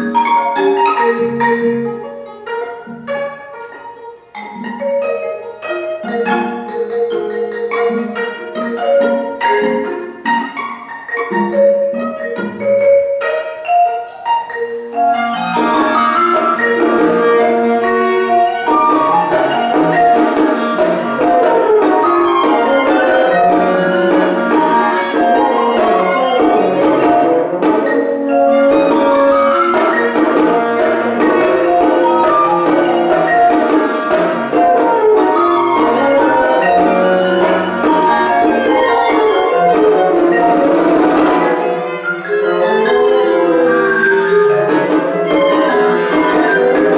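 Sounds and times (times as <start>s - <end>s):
bowed violin and cello: 0.0s - 46.9s
marimba-like pitched percussion: 0.0s - 46.9s.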